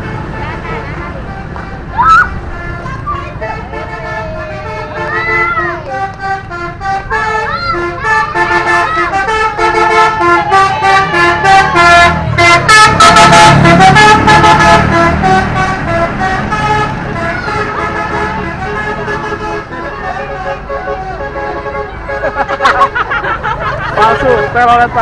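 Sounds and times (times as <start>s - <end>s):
multi-tone bus horn tune: 0.0s - 23.2s, 23.8s - 25.0s
low engine rumble: 0.0s - 25.0s.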